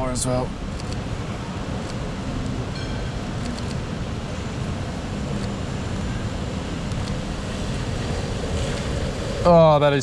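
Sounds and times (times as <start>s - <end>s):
low traffic rumble: 0.0s - 10.0s.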